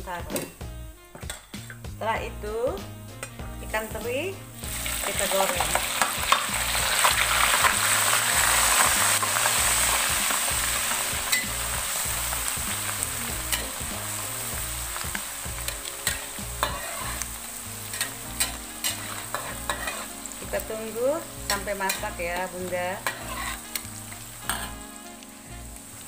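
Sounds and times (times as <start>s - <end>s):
fish sizzling in hot oil: 2.6s - 26.0s.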